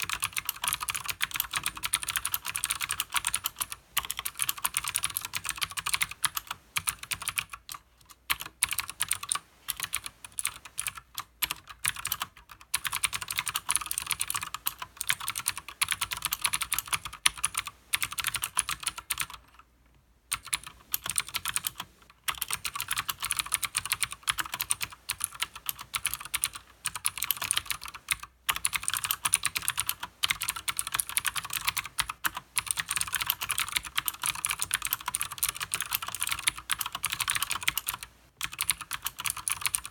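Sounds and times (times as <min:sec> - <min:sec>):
fast typing on clicky keyboard: 0:00.0 - 0:19.6, 0:20.3 - 0:39.9.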